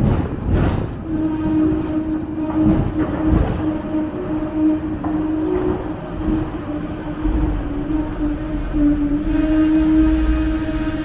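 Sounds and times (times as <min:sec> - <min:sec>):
tram humming tone: 0:00.0 - 0:11.0
wheels rumbling on track: 0:00.0 - 0:11.0.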